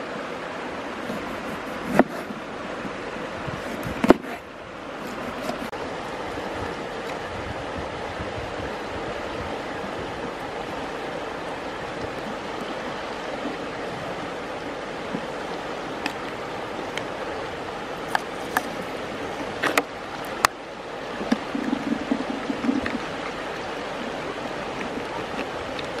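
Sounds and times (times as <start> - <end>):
flowing river water: 0.0 - 26.0.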